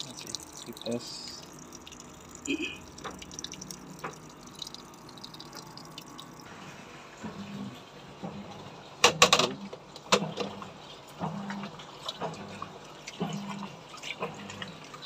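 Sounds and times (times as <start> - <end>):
water running into washing machine: 0.0 - 15.0.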